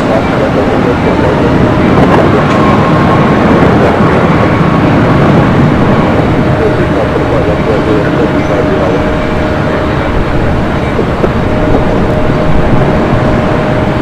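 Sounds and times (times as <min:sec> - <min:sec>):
faint steady tones: 0:00.0 - 0:14.0
train rail noise: 0:00.0 - 0:14.0.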